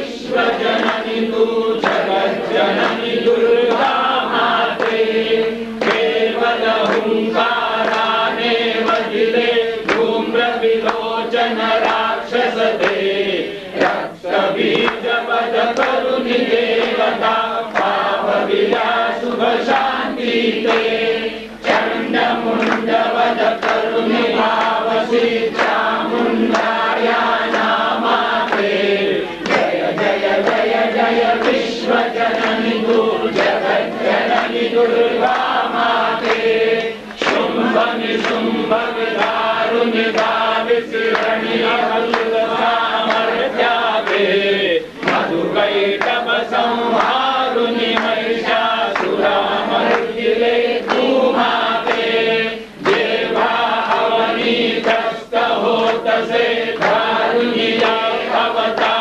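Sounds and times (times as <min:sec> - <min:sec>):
congregation chanting a hymn: 0:00.0 - 0:59.0
sharp rhythmic beats: 0:00.0 - 0:59.0.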